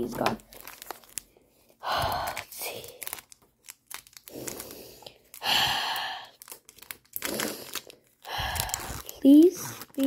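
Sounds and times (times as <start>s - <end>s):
foil wrapper tearing and crinkling: 0.3s - 1.4s, 2.0s - 5.7s, 6.3s - 10.0s.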